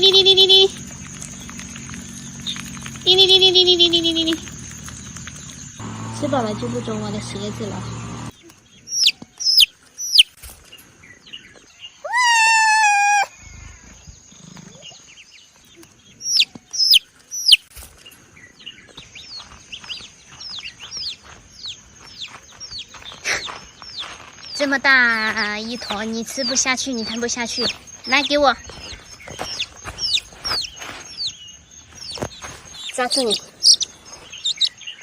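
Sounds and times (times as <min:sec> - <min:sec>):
chicks peeping: 0:00.0 - 0:11.6, 0:15.6 - 0:24.6, 0:25.3 - 0:35.0.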